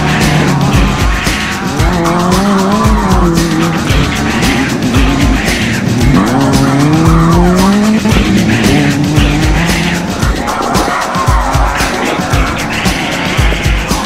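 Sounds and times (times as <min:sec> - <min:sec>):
music with a steady beat: 0:00.0 - 0:14.0
vehicle engine revving: 0:00.0 - 0:14.0.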